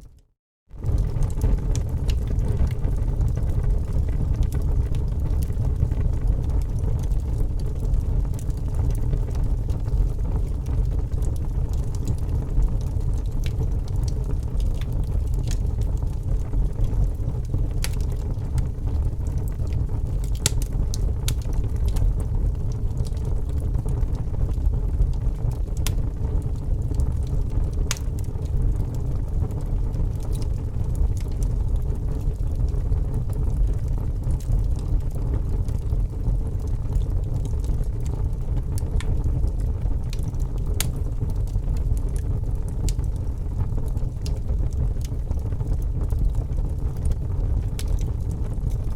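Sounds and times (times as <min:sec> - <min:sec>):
low rumble of fire: 0:00.0 - 0:48.9
burning wood crackling and popping: 0:00.7 - 0:48.9.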